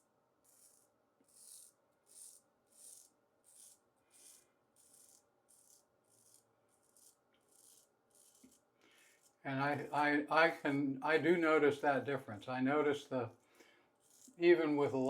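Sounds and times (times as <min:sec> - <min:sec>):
razor scraping stubble: 0:00.4 - 0:13.3, 0:13.9 - 0:15.0.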